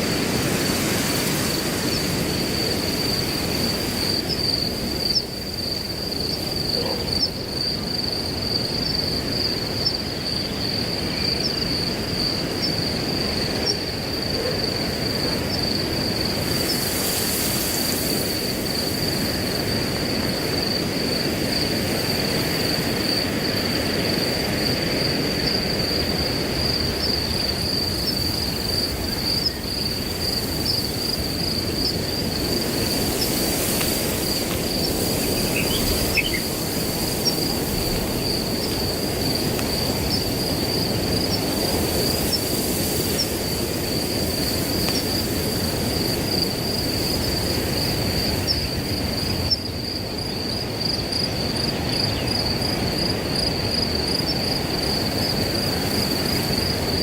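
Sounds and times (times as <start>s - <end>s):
high-pitched cricket trill: 0.0s - 57.0s
wind rushing through grass: 0.0s - 57.0s.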